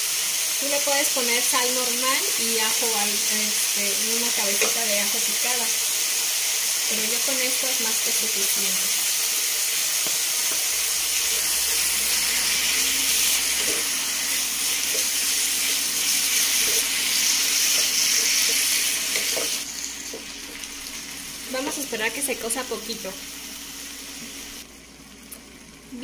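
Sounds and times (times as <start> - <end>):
food sizzling in frying pan: 0.0 - 26.0.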